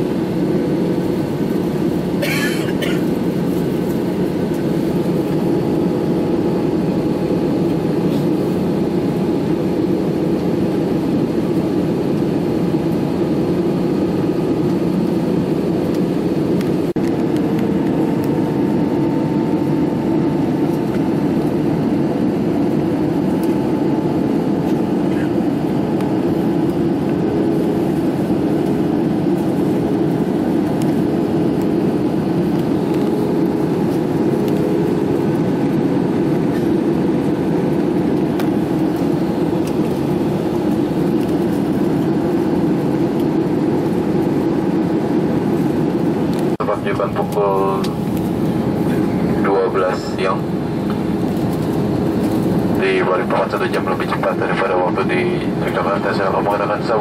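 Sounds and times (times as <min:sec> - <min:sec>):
airliner cabin engine rush: 0:00.0 - 0:57.0.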